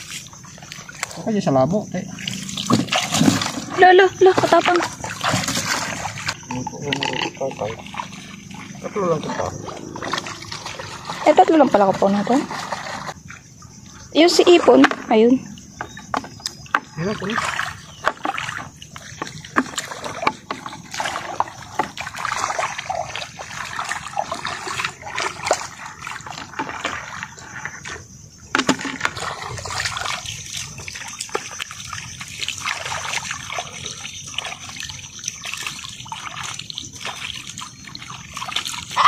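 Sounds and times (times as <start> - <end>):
shallow water splashing: 0.0 - 39.0.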